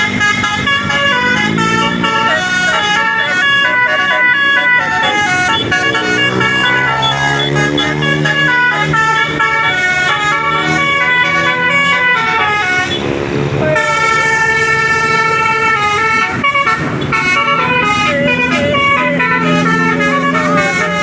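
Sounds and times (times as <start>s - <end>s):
bus horn playing a tune: 0.0s - 21.0s.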